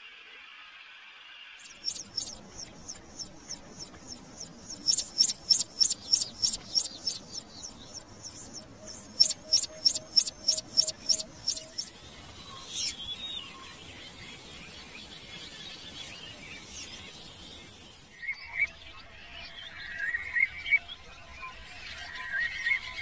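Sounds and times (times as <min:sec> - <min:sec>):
bird chirping: 0:01.6 - 0:23.0.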